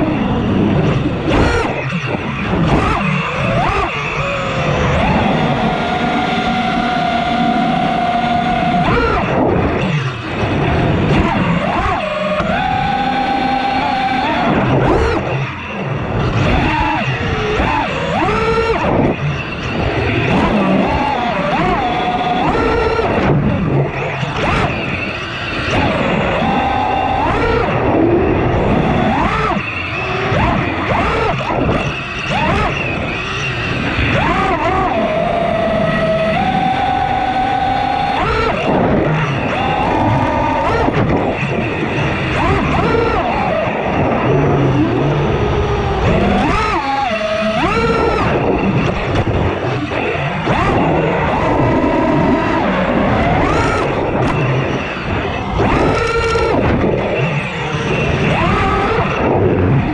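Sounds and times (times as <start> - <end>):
quadcopter motors whining: 0.0 - 59.9
rush of wind: 0.0 - 59.9.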